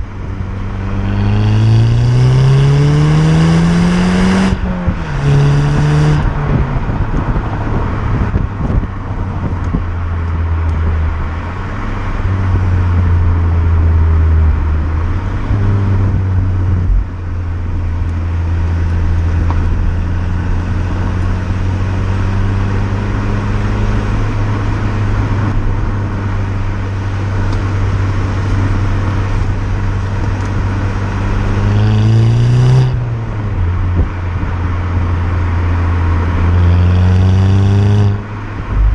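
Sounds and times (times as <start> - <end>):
car engine droning: 0.0 - 38.9
road noise: 0.0 - 38.9.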